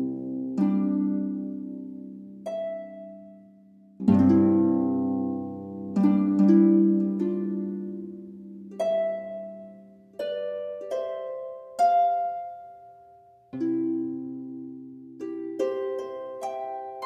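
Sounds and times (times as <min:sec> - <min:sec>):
slow harp music: 0:00.0 - 0:17.0.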